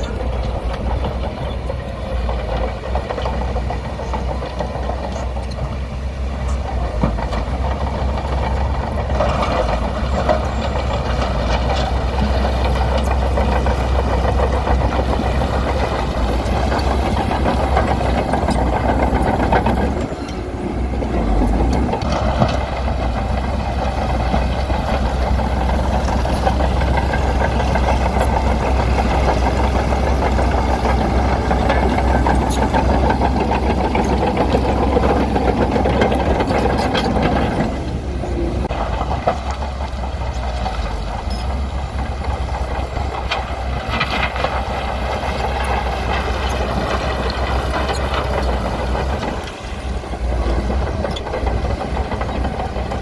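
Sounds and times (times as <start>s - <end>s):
bulldozer diesel engine rumbling: 0.0s - 53.0s.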